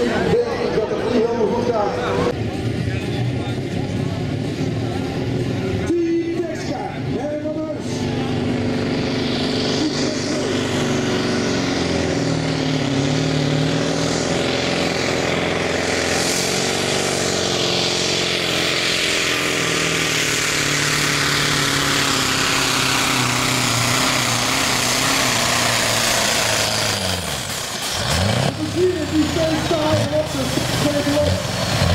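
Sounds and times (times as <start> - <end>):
diesel engine at full throttle: 0.0 - 31.9.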